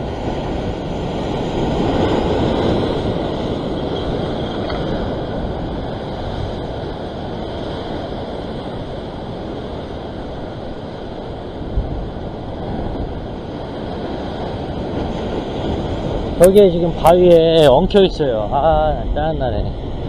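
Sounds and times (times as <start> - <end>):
surf churning against rocks: 0.0 - 20.0
wind rumbling on microphone: 0.0 - 20.0.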